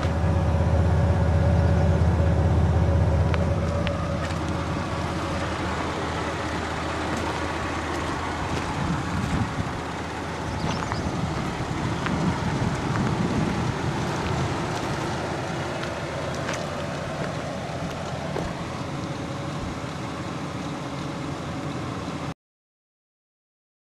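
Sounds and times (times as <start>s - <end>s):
truck engine idling: 0.0s - 22.4s.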